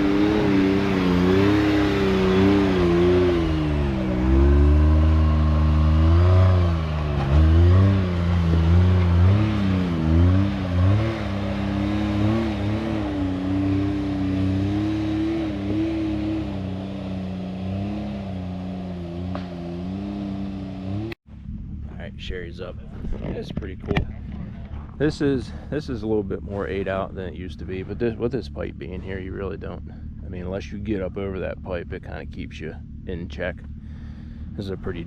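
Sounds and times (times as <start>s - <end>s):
engine revving under load: 0.0s - 35.0s.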